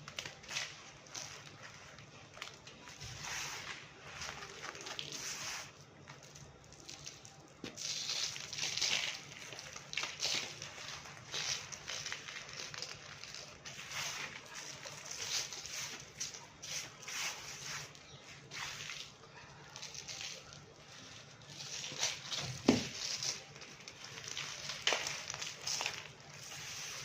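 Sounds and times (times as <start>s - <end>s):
dry clay crunching: 0.0s - 27.0s.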